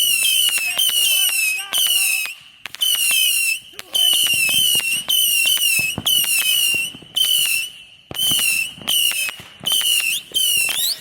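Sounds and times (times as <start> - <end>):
fireworks crackling pops: 0.0 - 11.0
fireworks shrill whistles: 0.0 - 11.0.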